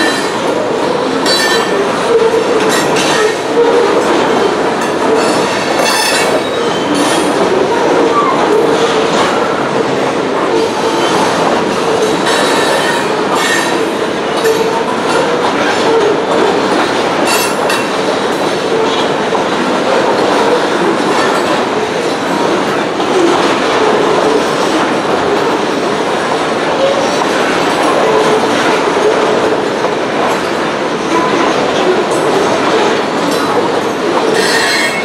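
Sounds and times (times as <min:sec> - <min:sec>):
steel wheels clattering over rails: 0:00.0 - 0:35.0.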